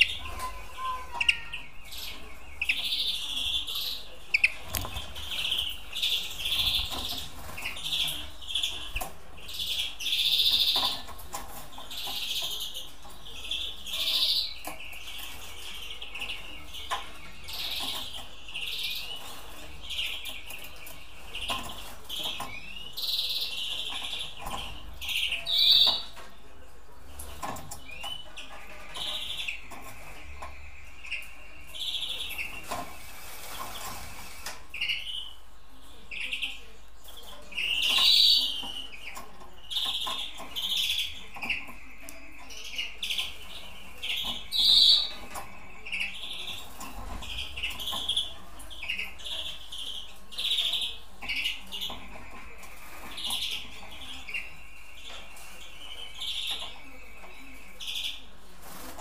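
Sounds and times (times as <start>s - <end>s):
finches chirping and trilling: 0.0s - 59.0s.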